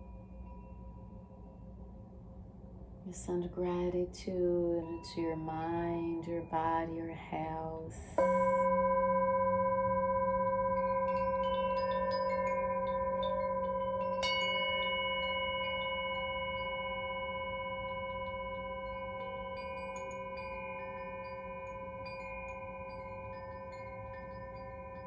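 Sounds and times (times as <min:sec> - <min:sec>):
singing bowl ringing: 0:04.7 - 0:25.0
small hand chime tinkling: 0:04.9 - 0:25.0.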